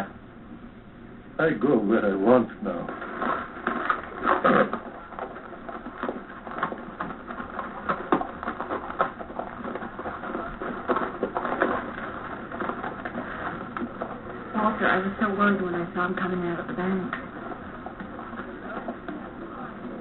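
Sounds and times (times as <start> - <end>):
horse hooves clopping on dirt: 2.8 - 20.0.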